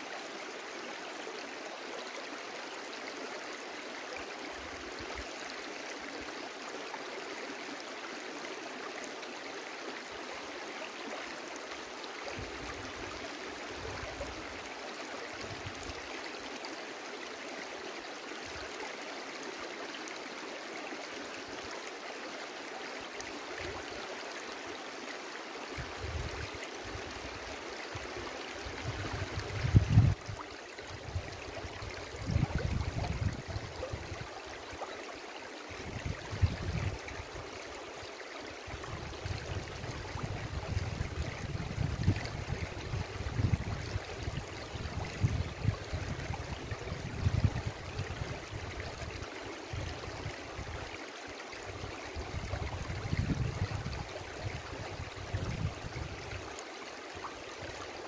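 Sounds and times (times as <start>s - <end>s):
brook flowing: 0.0s - 58.0s.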